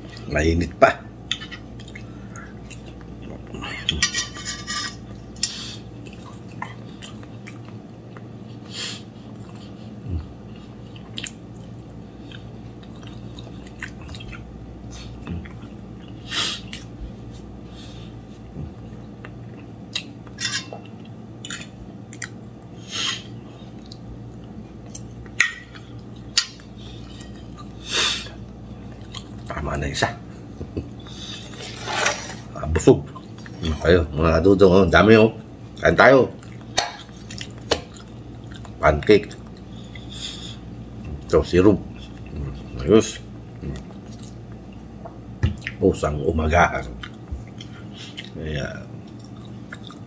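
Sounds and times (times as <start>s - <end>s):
low steady hum: 0.0s - 50.0s
man chewing: 1.2s - 4.1s, 5.0s - 29.5s, 30.3s - 32.1s, 36.4s - 45.8s, 46.9s - 50.0s.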